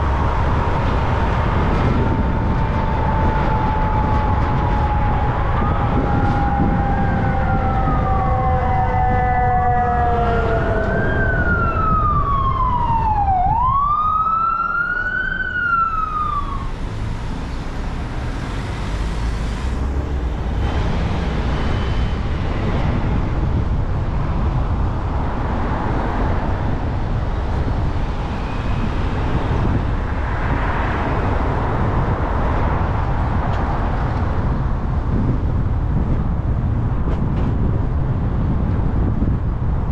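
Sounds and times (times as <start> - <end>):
emergency siren wailing: 0.0 - 34.6
traffic and road rumble: 0.0 - 39.9.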